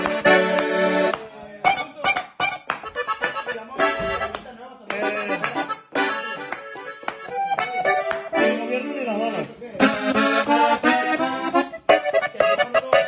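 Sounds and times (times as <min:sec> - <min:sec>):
button accordion played solo: 0:00.0 - 0:04.4, 0:05.0 - 0:13.0.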